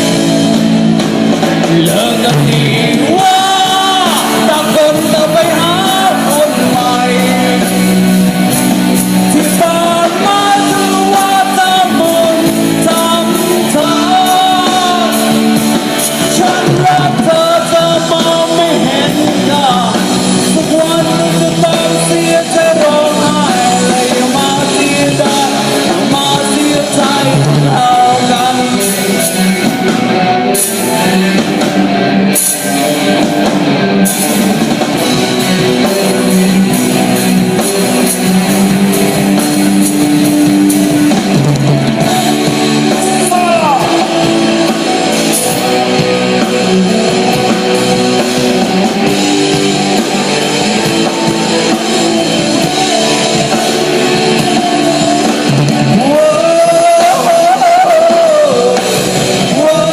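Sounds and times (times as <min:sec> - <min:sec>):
drum kit: 0:00.0 - 0:59.9
electric guitar: 0:00.0 - 0:59.9
rock band instrumental: 0:00.0 - 0:59.9.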